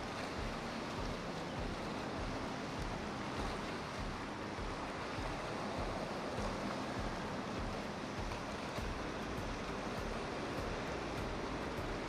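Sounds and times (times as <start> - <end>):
faint boat engine hum: 0.0 - 12.0
river water washing: 0.0 - 12.0
wind buffeting microphone: 0.0 - 12.0.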